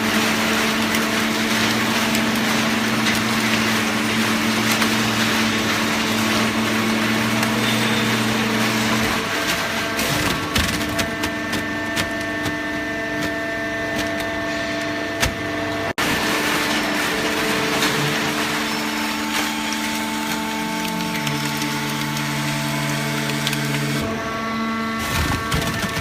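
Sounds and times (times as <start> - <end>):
hydraulic pump motor humming: 0.0 - 26.0.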